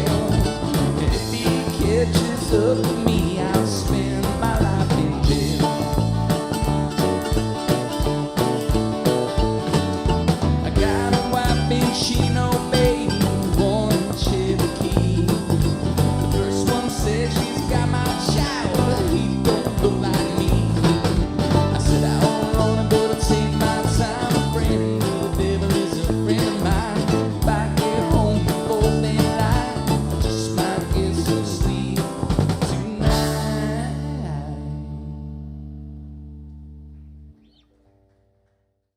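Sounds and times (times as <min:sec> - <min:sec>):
live country rock band: 0:00.0 - 0:36.8.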